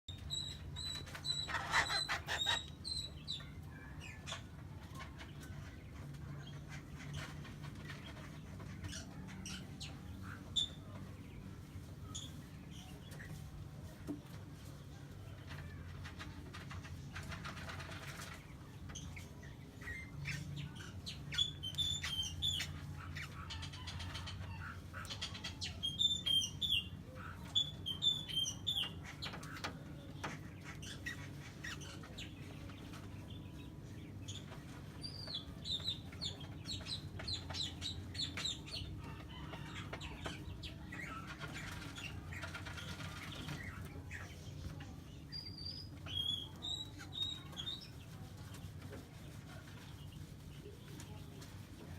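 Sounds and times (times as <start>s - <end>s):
bird chirping: 0.1s - 13.5s, 17.4s - 48.2s.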